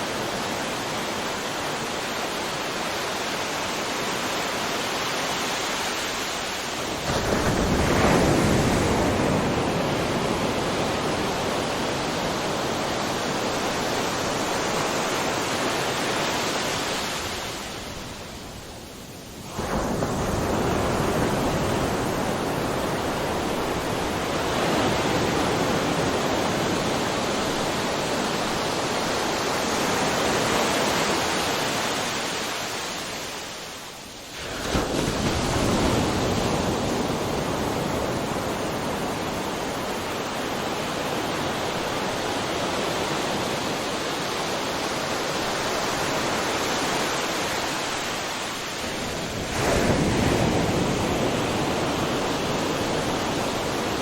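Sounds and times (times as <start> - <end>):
ocean waves breaking: 0.0 - 18.5, 19.4 - 33.6, 34.3 - 54.0.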